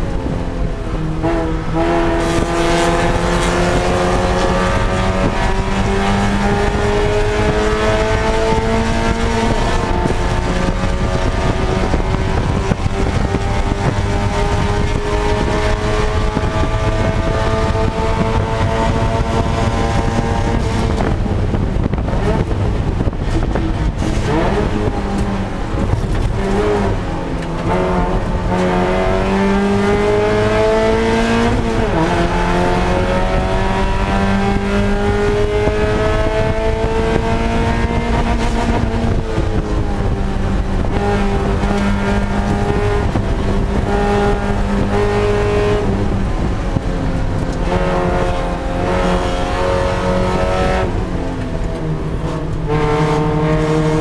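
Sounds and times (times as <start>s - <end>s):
race car engine accelerating: 0.0s - 54.0s
road and wind noise: 0.0s - 54.0s.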